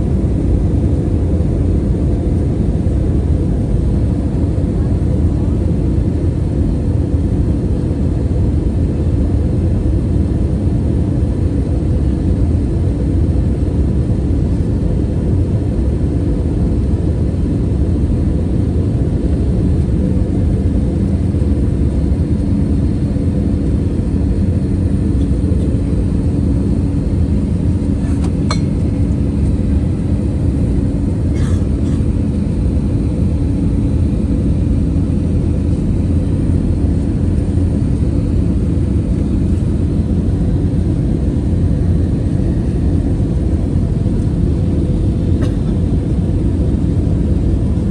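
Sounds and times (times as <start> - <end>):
constant cabin hum: 0.0 - 47.9
jet engine and airflow rumble: 0.0 - 47.9.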